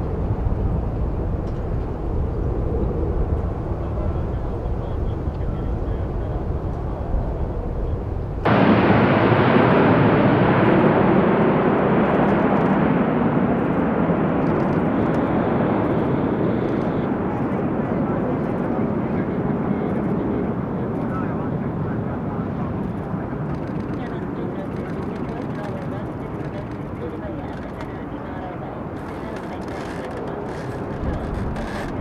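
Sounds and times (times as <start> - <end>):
jet engines rumbling: 0.0 - 32.0
jet passing low: 0.0 - 32.0.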